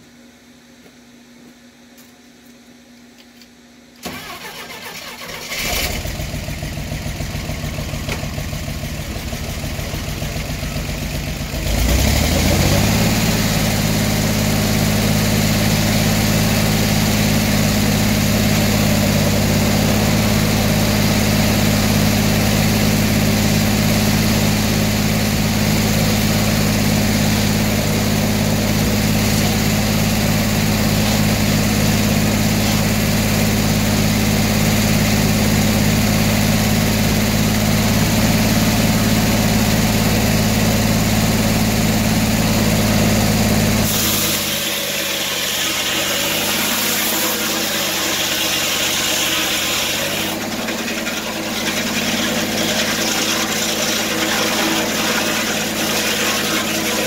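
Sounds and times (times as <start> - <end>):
engine cranking and running: 4.0 - 34.1, 34.9 - 57.0.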